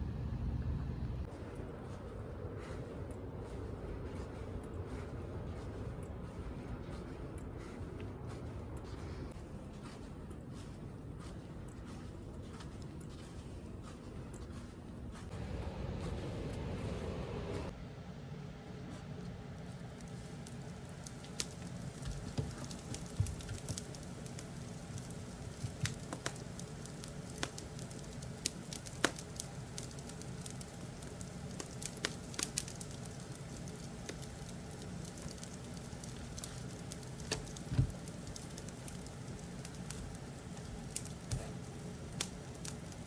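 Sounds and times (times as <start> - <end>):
wood fire crackling: 2.6 - 10.7, 15.2 - 17.8, 18.7 - 43.0.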